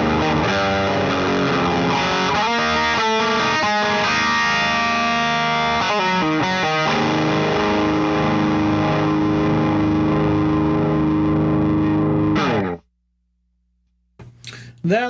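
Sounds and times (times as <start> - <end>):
distorted electric guitar chords: 0.0 - 12.9.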